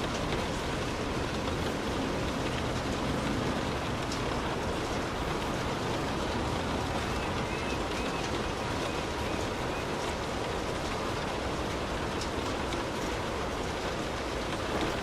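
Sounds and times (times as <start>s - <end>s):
rain hissing on a car: 0.0s - 15.0s
raindrops ticking: 0.0s - 15.0s.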